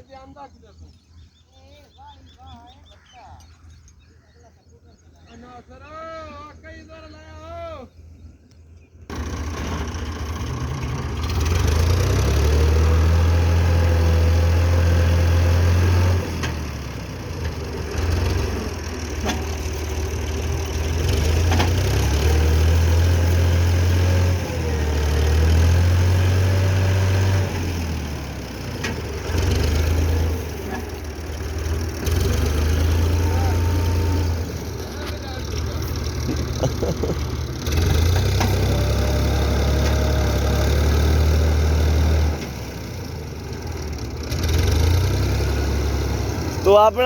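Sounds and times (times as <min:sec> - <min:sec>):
tractor diesel engine revving: 0:09.1 - 0:47.0.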